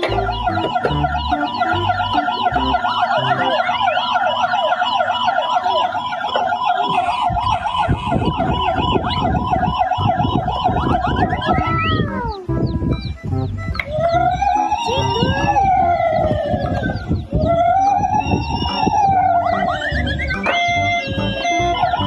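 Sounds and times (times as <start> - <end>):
warbling electronic siren: 0.0 - 22.0.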